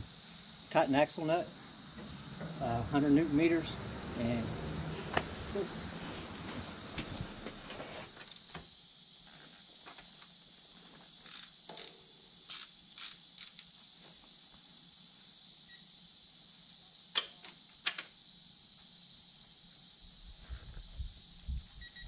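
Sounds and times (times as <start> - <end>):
high insect chorus: 0.0 - 22.0.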